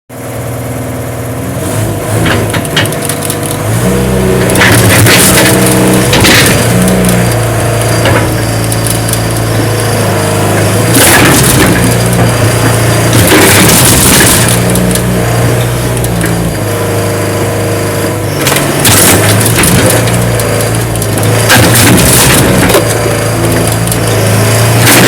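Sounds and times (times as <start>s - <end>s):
crane engine running: 0.1s - 25.0s
lawn mower cracking and crunching: 2.1s - 25.0s.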